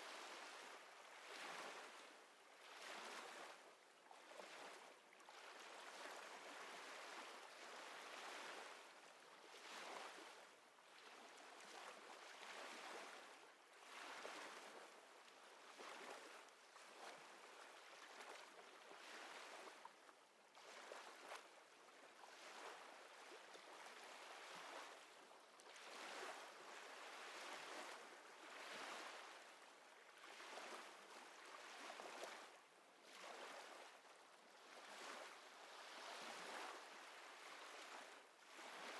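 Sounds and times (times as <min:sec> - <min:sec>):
small waves lapping: 0:00.0 - 0:10.4, 0:11.0 - 0:38.9.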